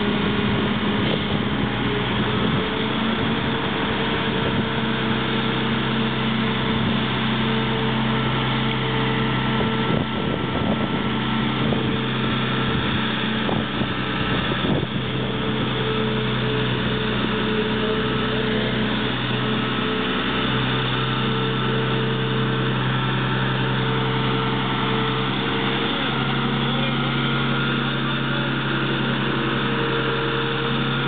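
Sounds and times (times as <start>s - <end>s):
diesel engine running steadily: 0.0s - 31.0s.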